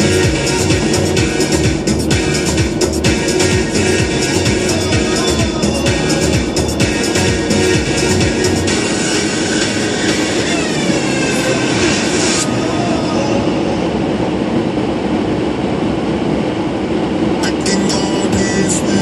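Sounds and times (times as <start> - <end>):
noisy synth sweep: 0.0 - 19.0
steady low drone: 0.0 - 19.0.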